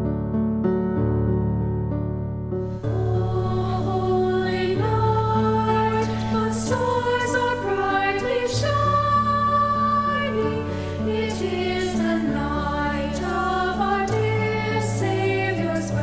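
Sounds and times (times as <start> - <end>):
choir singing a carol: 2.8 - 16.0.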